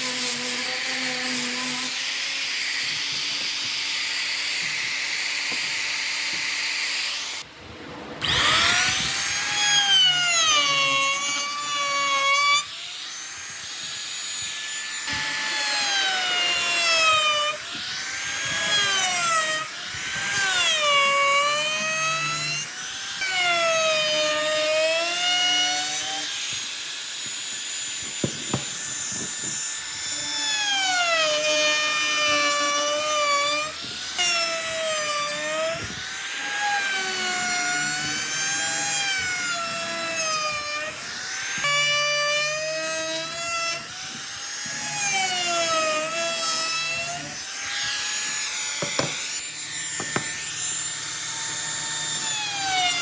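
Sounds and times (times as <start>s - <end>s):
power tool whining through wood: 0.0s - 53.0s.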